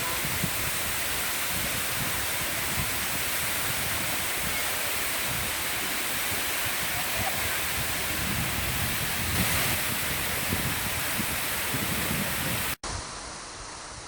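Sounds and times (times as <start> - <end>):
waterfall pouring: 0.0 - 12.8.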